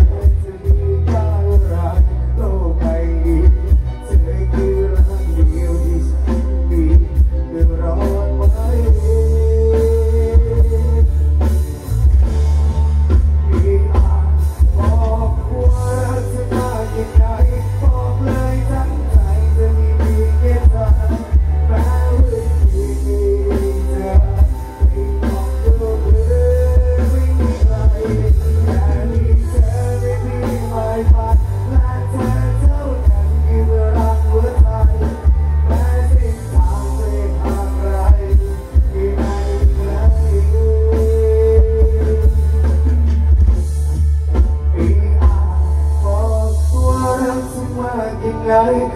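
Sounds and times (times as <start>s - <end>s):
person singing: 0.0s - 43.3s, 44.2s - 48.9s
steady drum beats: 0.0s - 47.8s
heavy bass: 0.0s - 48.9s
live band playing: 0.0s - 48.9s.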